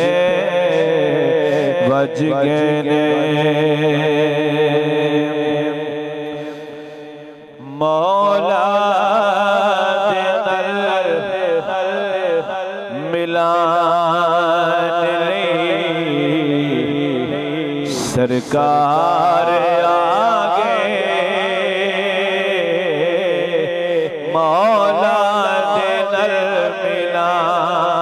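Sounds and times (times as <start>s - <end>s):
man singing into a microphone: 0.0s - 28.0s.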